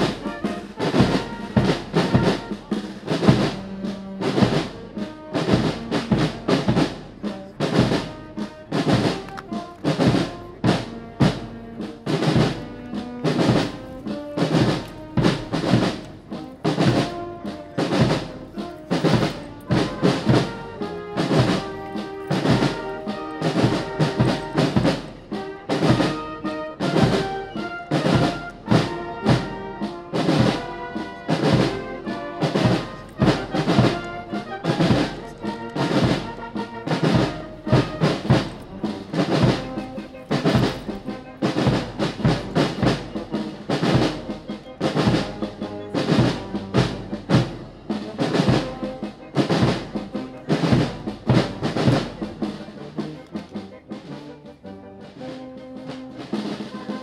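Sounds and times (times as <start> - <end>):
brass melody: 0.0 - 57.0
steady drum beat: 0.0 - 57.0.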